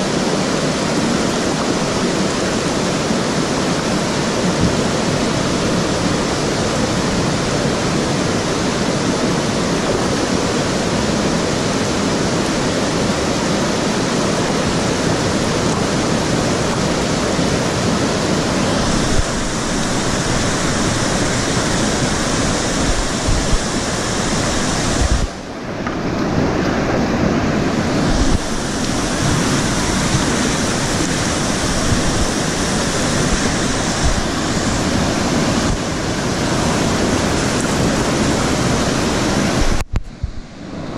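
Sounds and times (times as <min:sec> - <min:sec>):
white water rushing over weir: 0:00.0 - 0:40.9.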